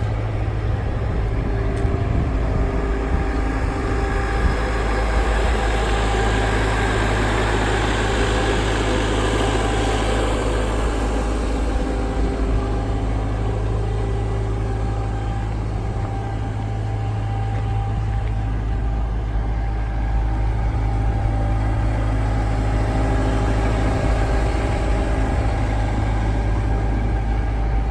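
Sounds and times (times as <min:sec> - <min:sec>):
diesel engine rumbling: 0:00.0 - 0:27.9.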